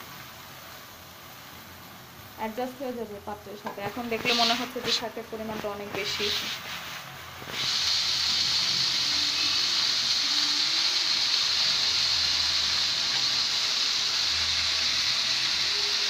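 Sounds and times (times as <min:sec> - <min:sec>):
greens sizzling in hot oil: 0:00.0 - 0:16.0.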